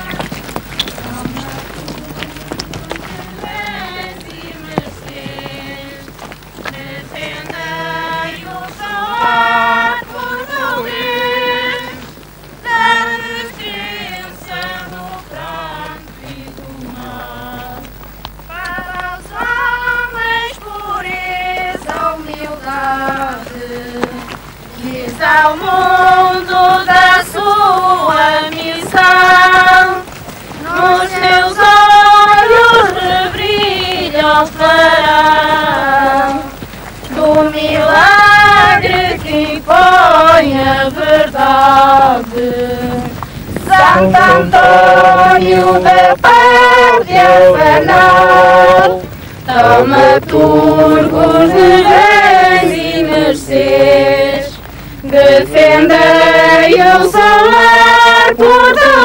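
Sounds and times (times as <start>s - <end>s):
women singing a hymn: 0.0s - 59.0s.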